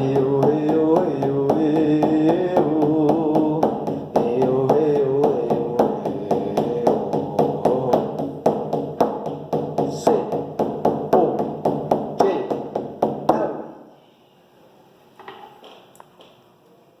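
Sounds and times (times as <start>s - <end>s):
drum beaten in quick rhythm: 0.0s - 13.7s.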